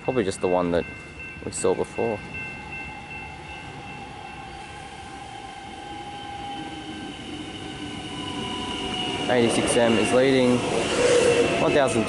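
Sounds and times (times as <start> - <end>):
electric train approaching: 0.0 - 12.0
steady high tones: 0.0 - 12.0.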